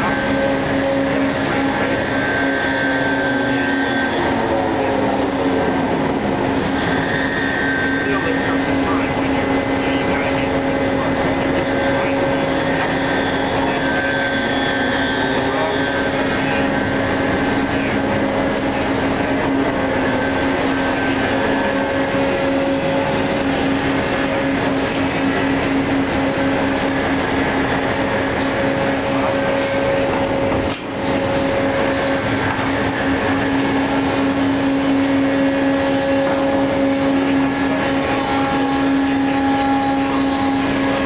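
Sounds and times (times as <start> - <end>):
crane machinery drone: 0.0 - 41.0
low hum: 0.0 - 41.0.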